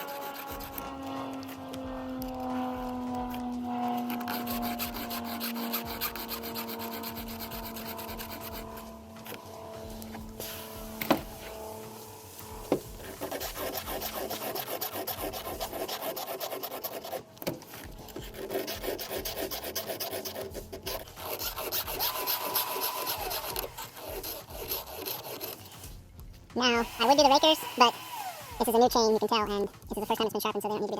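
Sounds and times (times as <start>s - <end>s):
file rasping on chainsaw chain: 0.0s - 26.0s, 26.8s - 29.6s.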